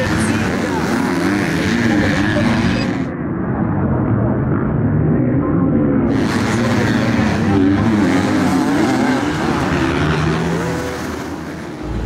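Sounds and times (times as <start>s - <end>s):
motocross bike engines racing: 0.0s - 12.0s.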